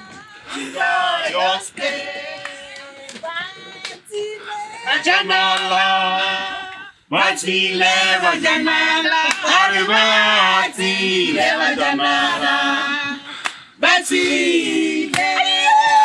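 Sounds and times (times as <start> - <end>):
group singing in harmony: 0.0 - 16.0.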